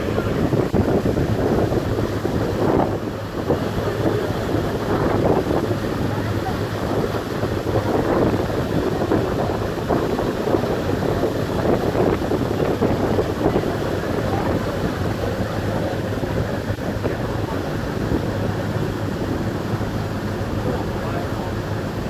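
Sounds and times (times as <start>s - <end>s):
ship engine humming: 0.0s - 22.0s
water washing along hull: 0.0s - 22.0s
wind buffeting microphone: 0.0s - 22.0s.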